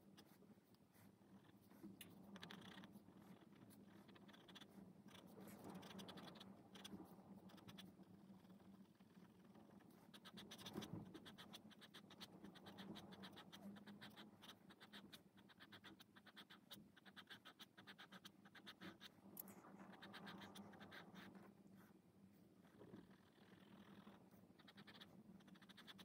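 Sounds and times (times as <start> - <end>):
pen scratching on paper: 0.0 - 8.0, 9.8 - 22.0, 24.3 - 26.0.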